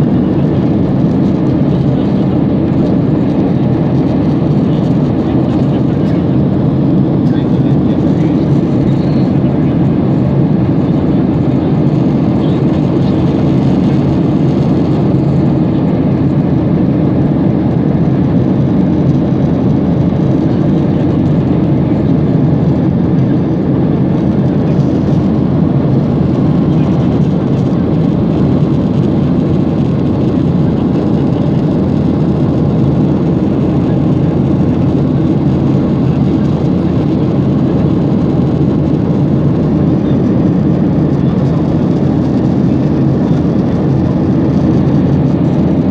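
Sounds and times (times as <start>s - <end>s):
airliner cabin rumble: 0.0s - 45.9s.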